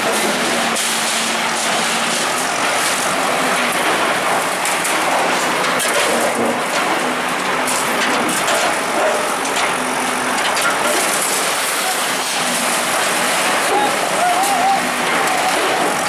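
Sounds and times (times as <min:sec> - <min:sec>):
bulldozer clatter: 0:00.0 - 0:16.0.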